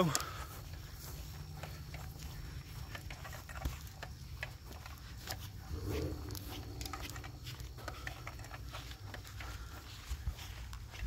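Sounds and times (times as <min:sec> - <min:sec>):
footsteps through grass: 0:00.0 - 0:11.0.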